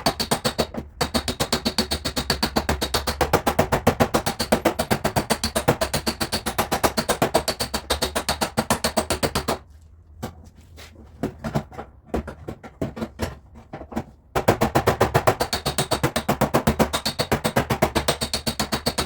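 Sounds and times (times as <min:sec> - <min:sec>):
small hammer tapping metal panel: 0:00.0 - 0:09.6, 0:11.4 - 0:19.0.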